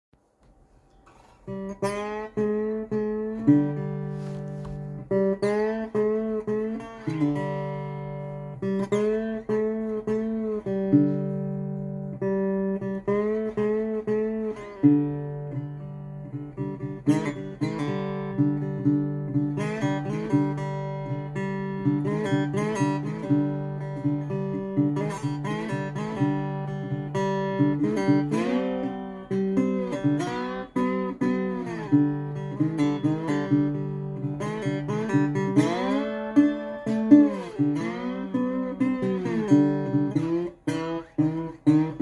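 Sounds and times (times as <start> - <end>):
slide guitar blues: 1.4 - 42.0.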